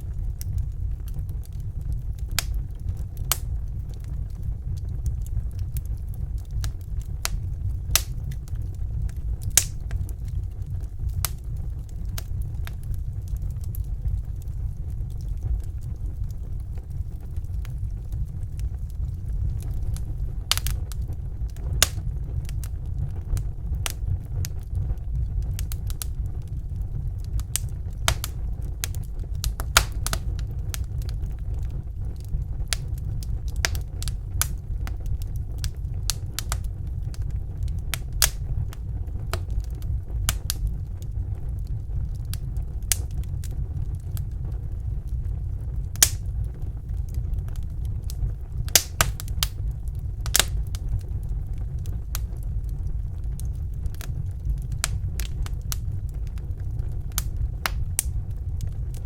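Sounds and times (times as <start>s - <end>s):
fire crackling and popping: 0.0s - 59.0s
steady low rumble: 0.0s - 59.0s.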